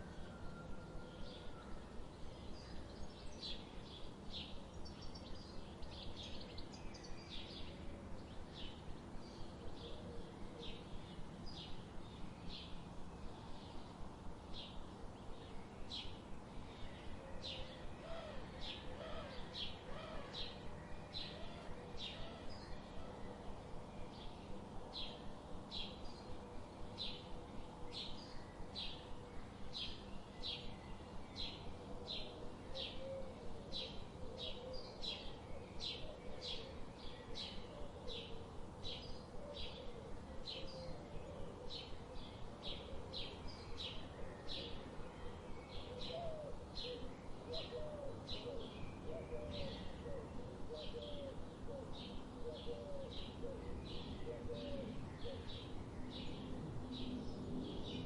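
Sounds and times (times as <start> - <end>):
background hiss: 0.0 - 58.0
soft low curling bird calls: 0.0 - 58.0
songbird chirping: 0.0 - 58.0.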